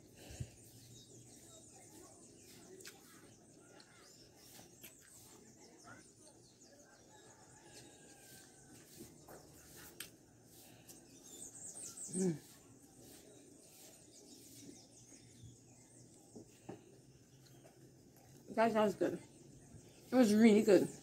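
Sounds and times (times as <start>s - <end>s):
quiet eating: 0.0s - 21.0s
small bird chirping: 0.2s - 21.0s.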